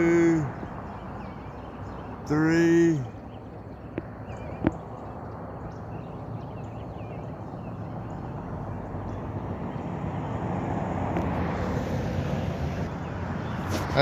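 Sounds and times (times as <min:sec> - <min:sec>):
distant engine rumble: 0:00.0 - 0:14.0.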